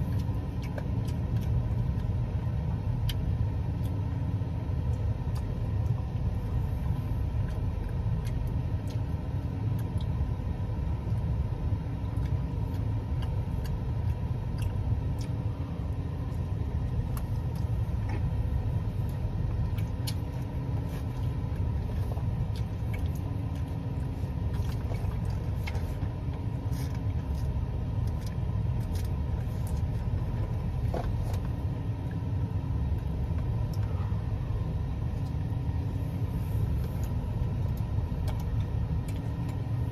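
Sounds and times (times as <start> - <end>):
soft chewing with mouth clicks: 0.0 - 39.9
steady low rumble: 0.0 - 39.9.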